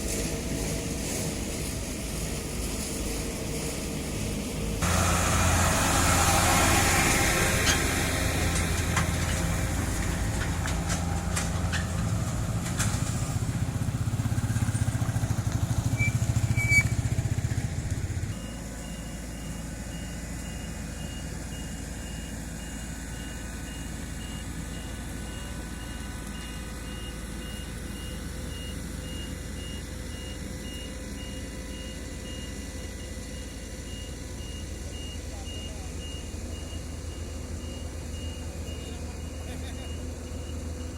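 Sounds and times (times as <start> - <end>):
diesel engines droning: 0.0 - 40.9
reversing alarm beeping: 4.8 - 40.9.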